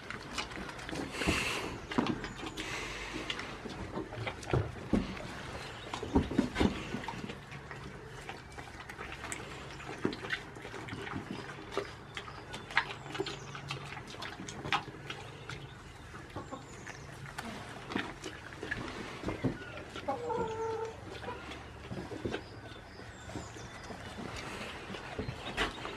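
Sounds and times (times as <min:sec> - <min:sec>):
goats chewing crunchy vegetables: 0:00.0 - 0:25.9.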